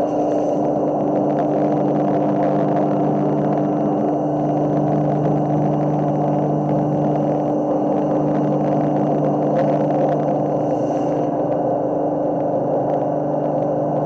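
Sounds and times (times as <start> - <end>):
washing machine motor hum: 0.0 - 11.8.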